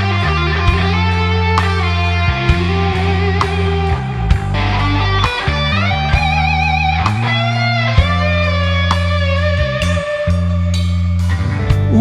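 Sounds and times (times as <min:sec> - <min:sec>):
bass guitar: 0:00.0 - 0:12.0
drums: 0:00.0 - 0:12.0
electric guitar lead with vibrato: 0:00.0 - 0:12.0.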